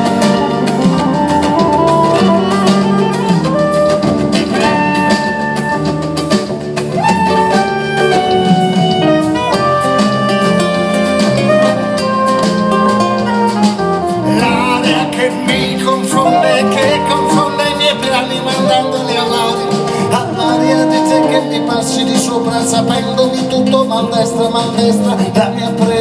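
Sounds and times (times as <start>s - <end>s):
acoustic guitar: 0.0s - 26.0s
double bass: 0.0s - 26.0s
drums: 0.0s - 26.0s
reed instrument melody: 0.0s - 26.0s.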